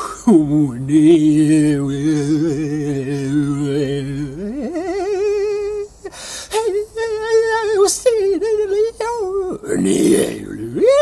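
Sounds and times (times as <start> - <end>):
breathy hiss: 0.0 - 8.2, 9.2 - 10.9
person singing wordlessly: 0.0 - 11.0.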